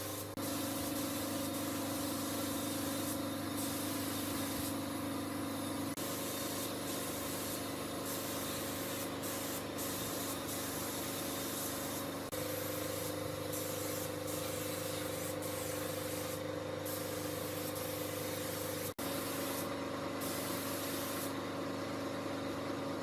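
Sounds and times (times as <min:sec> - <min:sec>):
spray gun hissing: 0:00.0 - 0:05.2, 0:06.0 - 0:21.4.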